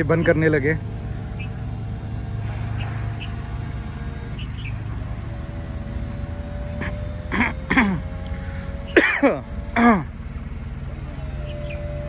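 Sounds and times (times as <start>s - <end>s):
car engine idling: 0.0s - 12.0s
retractable roof motor whine: 0.0s - 12.0s.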